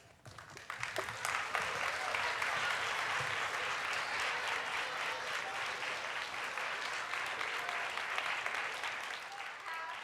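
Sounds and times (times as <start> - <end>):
audience clapping: 0.2 - 10.0.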